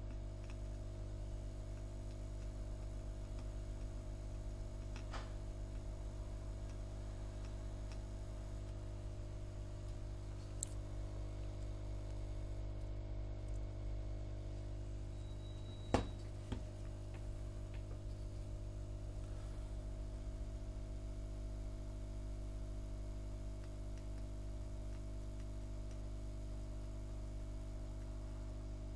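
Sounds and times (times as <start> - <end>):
low electrical hum: 0.0 - 28.9.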